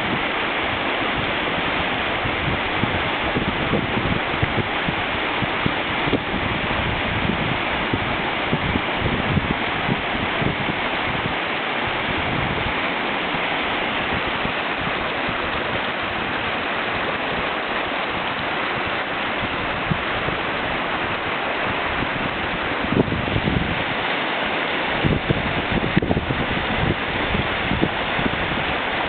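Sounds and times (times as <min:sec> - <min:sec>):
river rapid rushing: 0:00.0 - 0:29.0.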